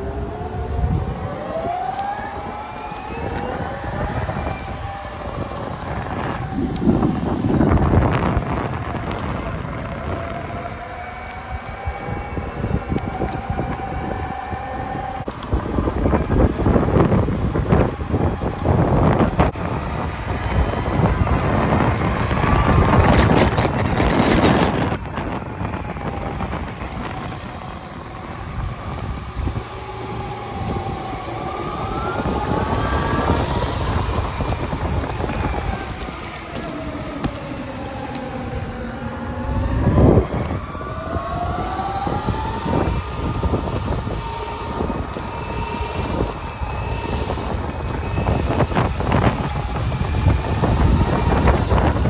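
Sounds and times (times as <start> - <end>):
electric motors whining: 0.0 - 52.0
wheels rumbling on rough concrete: 0.0 - 52.0
wind buffeting microphone: 0.0 - 52.0.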